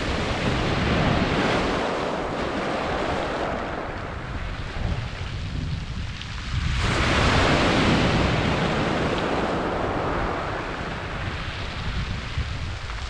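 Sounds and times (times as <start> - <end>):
wave washing over pebbles: 0.0 - 13.0.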